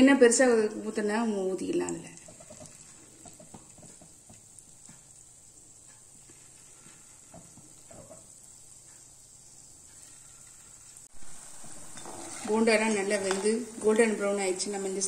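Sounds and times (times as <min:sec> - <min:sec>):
batter deep-frying in hot oil: 0:00.0 - 0:15.0.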